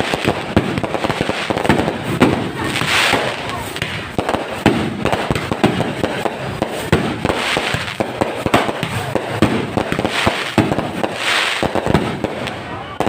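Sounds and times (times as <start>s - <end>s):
fireworks bangs and pops: 0.0s - 13.0s
fireworks crackling hiss: 0.0s - 13.0s.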